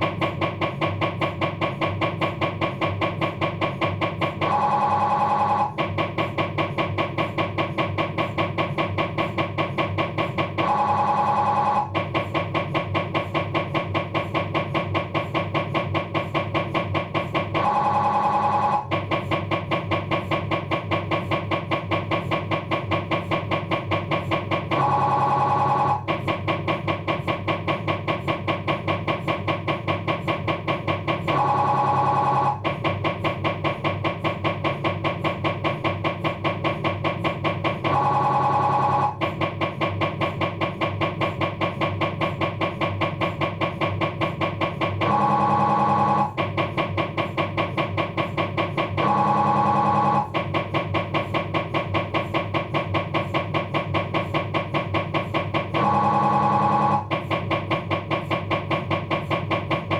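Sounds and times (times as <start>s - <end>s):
mri scanner buzzing pulses: 0.0s - 59.9s
mri scanner humming tone: 0.0s - 59.9s.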